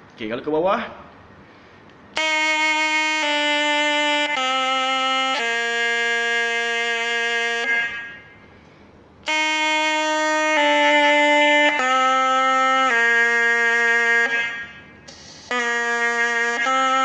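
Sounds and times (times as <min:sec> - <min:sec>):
double-reed pipe playing scale: 0:02.2 - 0:08.6, 0:09.2 - 0:17.0.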